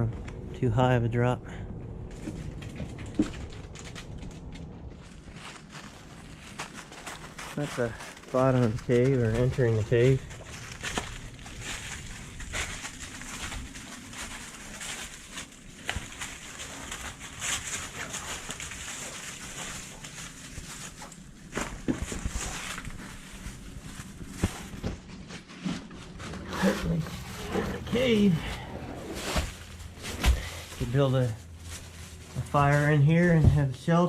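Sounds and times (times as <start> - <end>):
footsteps on rock and leaves: 2.0 - 34.0.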